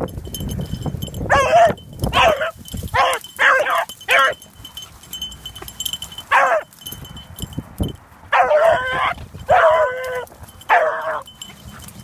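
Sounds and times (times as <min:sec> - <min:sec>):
beagles baying: 0:01.2 - 0:07.0, 0:08.2 - 0:12.0
brush rustling: 0:01.8 - 0:12.0.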